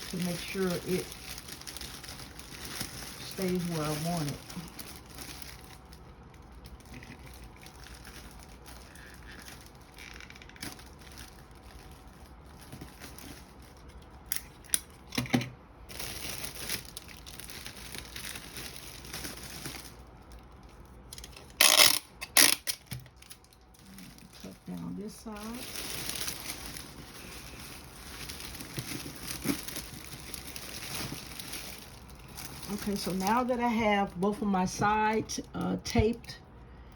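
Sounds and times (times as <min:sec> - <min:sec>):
sharp crackles of wrap: 0:00.0 - 0:15.2, 0:15.8 - 0:36.4
wrap crinkling and rustling: 0:00.0 - 0:15.2, 0:15.8 - 0:36.2.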